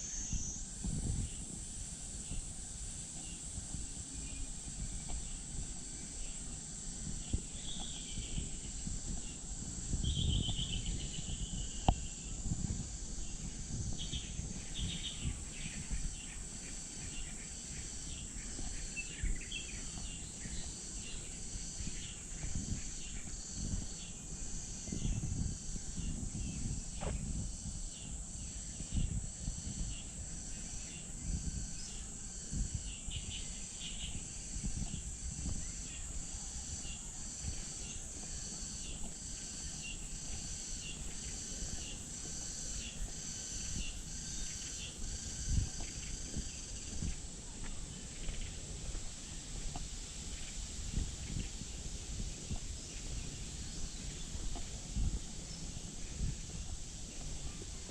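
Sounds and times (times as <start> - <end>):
insects buzzing: 0.0 - 57.9.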